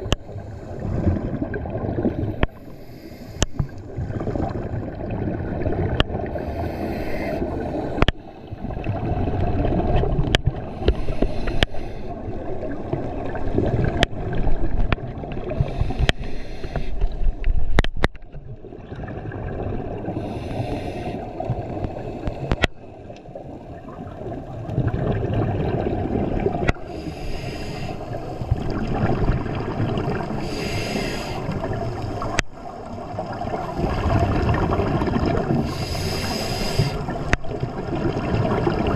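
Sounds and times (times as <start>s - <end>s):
underwater breath bubbling: 0.0s - 17.5s, 19.2s - 22.9s, 23.8s - 38.9s.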